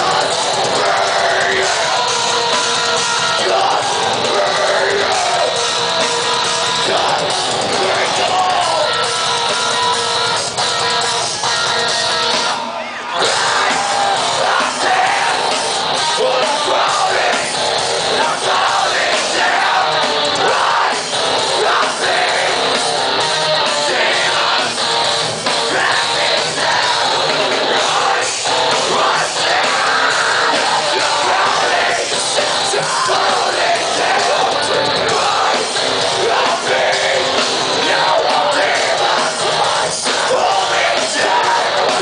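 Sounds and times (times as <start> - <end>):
heavy metal band playing live: 0.0 - 42.0
sung and yelled vocals: 0.0 - 42.0.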